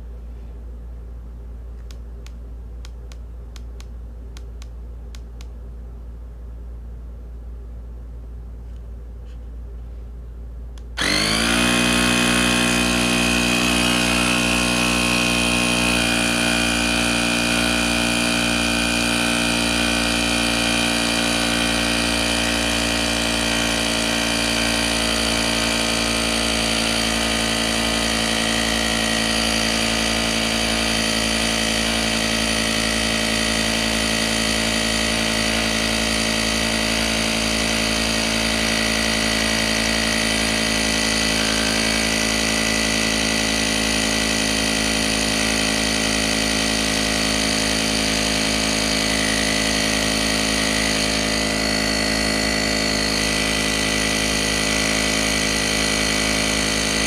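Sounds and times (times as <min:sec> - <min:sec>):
electric tire inflator pump humming: 0:10.8 - 0:57.0.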